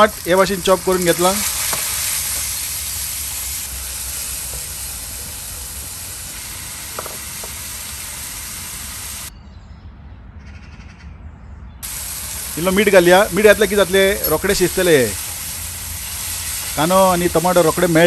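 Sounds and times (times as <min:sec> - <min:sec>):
tomato sizzling in hot oil: 0:00.0 - 0:09.3, 0:11.8 - 0:18.0.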